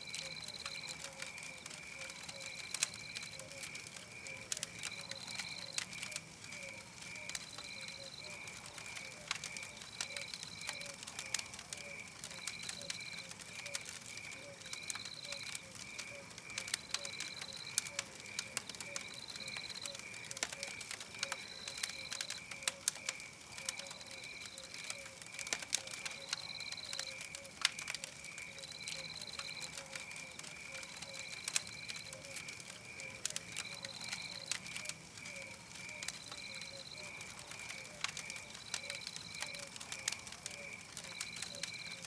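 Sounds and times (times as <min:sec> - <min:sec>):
campfire crackling and popping: 0:00.0 - 0:42.0
steady high insect chirp: 0:00.0 - 0:42.0.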